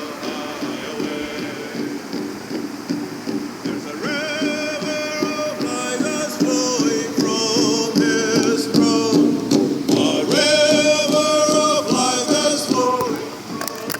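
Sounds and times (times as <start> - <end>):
music with singing: 0.0 - 13.9.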